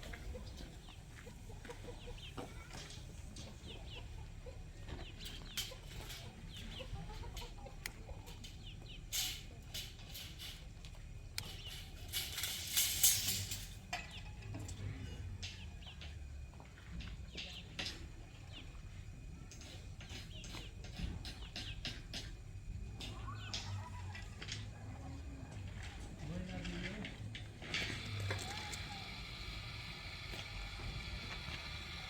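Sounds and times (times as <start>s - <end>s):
chickens clucking and cheeping: 0.0s - 12.4s, 13.8s - 32.0s.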